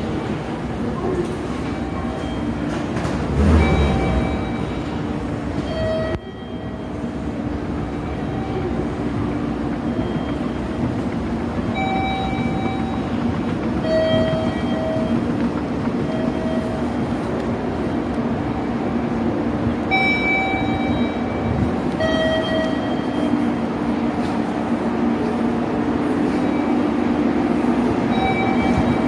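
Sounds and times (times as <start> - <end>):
electric trains humming: 0.0 - 29.0.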